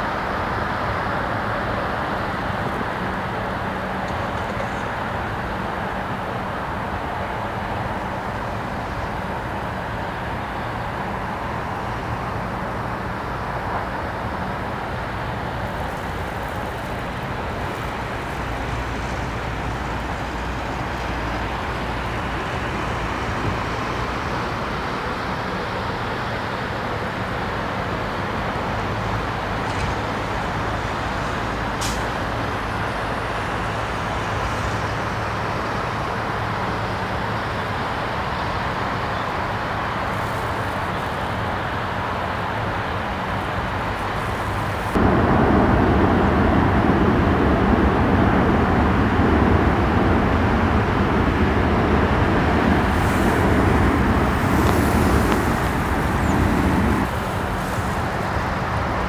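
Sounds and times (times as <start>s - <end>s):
engine and traffic rushing: 0.0s - 59.0s.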